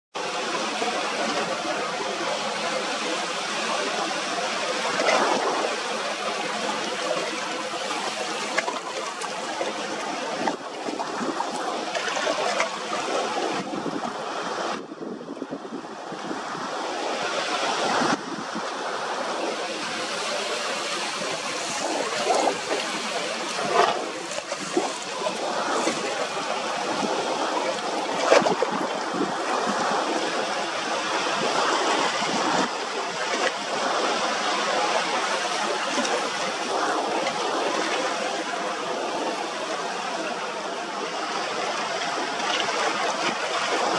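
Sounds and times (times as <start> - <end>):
sea surf breaking: 0.2 - 43.9.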